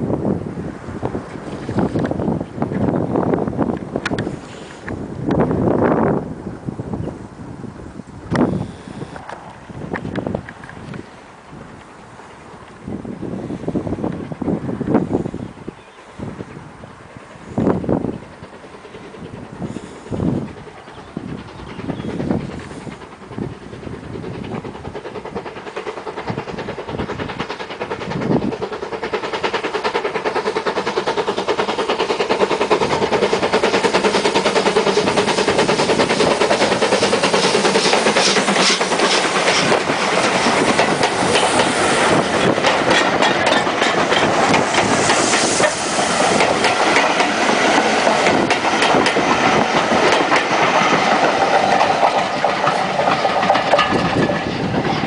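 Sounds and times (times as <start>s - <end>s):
steam locomotive clattering: 0.0s - 55.0s.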